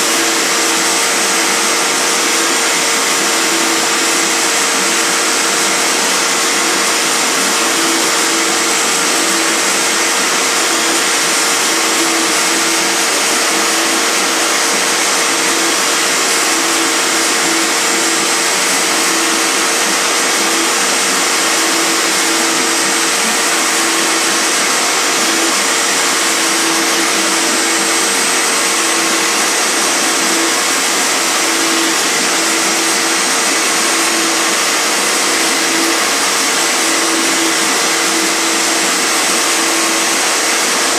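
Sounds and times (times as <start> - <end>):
stepper motor hum: 0.0 - 40.8
router spindle whine and hiss: 0.0 - 40.9.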